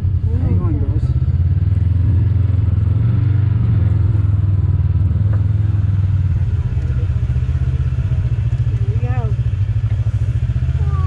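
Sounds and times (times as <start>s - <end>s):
off-road vehicle engine rumbling: 0.0s - 11.0s.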